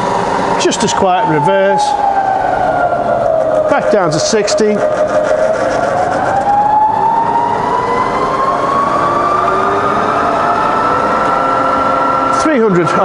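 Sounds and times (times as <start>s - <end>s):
milling machine whine rising in pitch: 0.0s - 13.0s.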